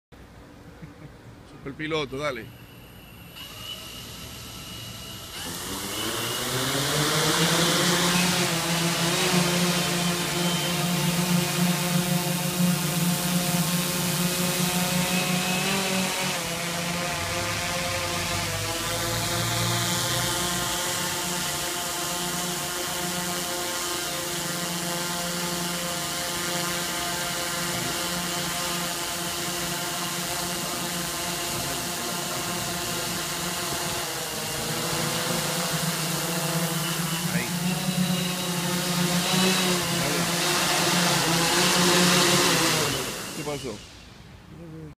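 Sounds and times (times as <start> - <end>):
drone propellers whirring: 0.2 - 44.4.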